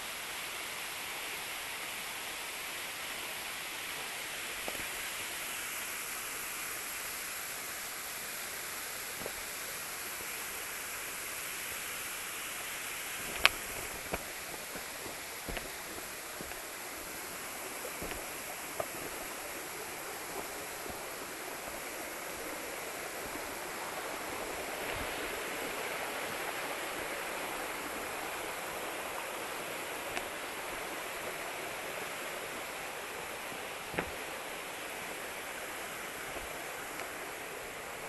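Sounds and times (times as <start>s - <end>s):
waterfall rushing: 0.1s - 38.0s.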